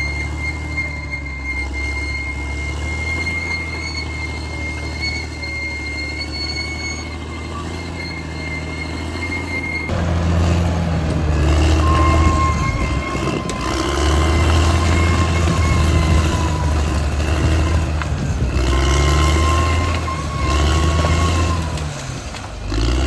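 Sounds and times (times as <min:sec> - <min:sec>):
bulldozer diesel engine running: 0:00.0 - 0:23.0
steady high-pitched squeal: 0:00.0 - 0:23.0.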